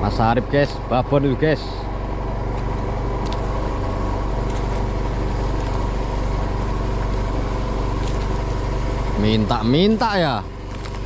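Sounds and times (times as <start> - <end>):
boat engine humming: 1.6 - 11.0.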